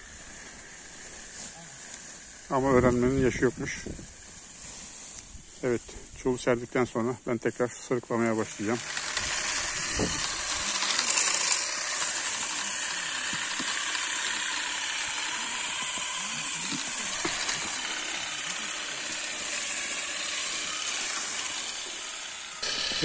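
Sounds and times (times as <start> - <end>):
electric harvesters buzzing and rattling: 0.0 - 23.0.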